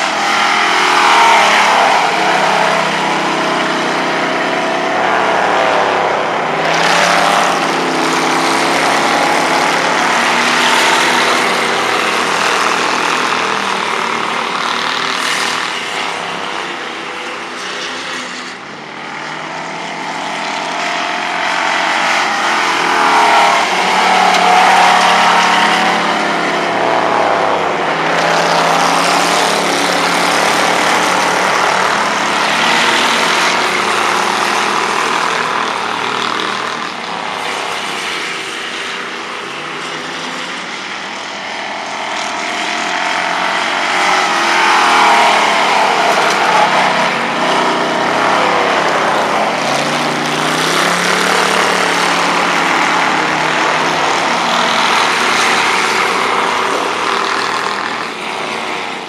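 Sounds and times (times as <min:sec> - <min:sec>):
stock car engine running hard: 0:00.0 - 0:59.0.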